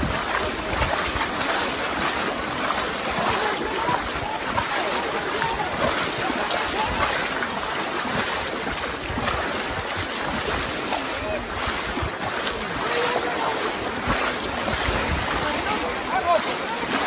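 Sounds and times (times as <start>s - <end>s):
voices calling: 0.0s - 7.9s, 10.9s - 17.0s
wind on microphone: 0.0s - 13.1s, 13.7s - 16.0s
crowd splashing through water: 0.0s - 17.0s.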